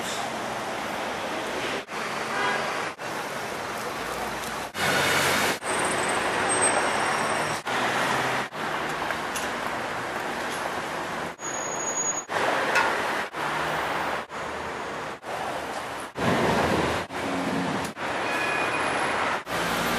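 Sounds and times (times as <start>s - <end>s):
city street traffic: 0.0s - 19.9s.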